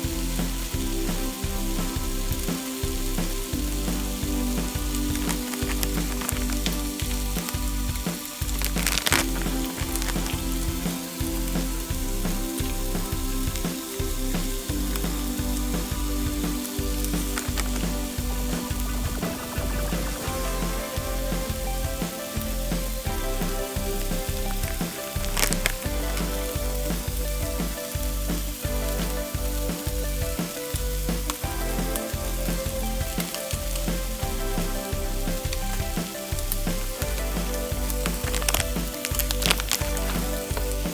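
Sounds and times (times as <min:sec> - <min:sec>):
background music with beat: 0:00.0 - 0:40.9
food sizzling in a pan: 0:00.0 - 0:40.9.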